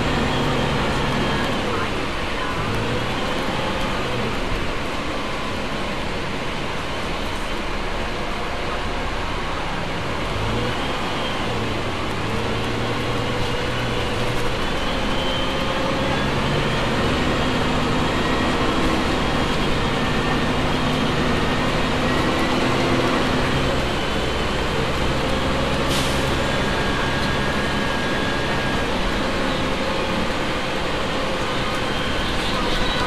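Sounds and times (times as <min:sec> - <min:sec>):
diesel bus engine idling: 0:00.0 - 0:33.0.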